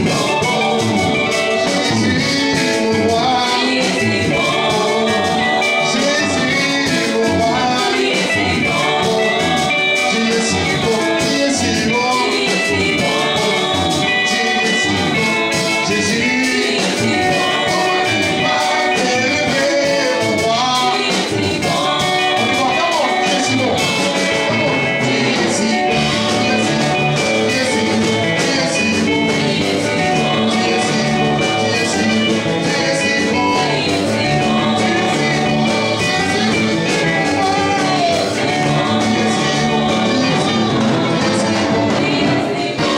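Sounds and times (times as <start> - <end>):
upbeat church music with singing: 0.0 - 42.9.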